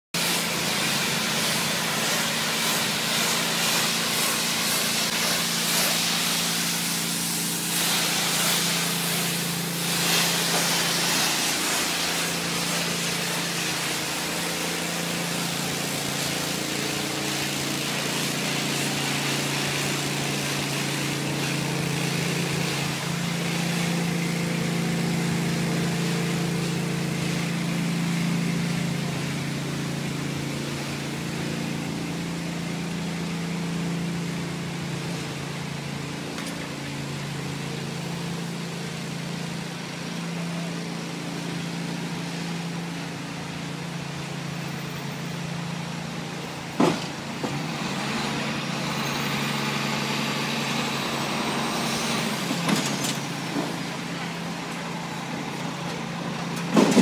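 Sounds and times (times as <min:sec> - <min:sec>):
engine humming: 0:00.2 - 0:57.0
pressure washer water spray hissing: 0:00.2 - 0:57.0.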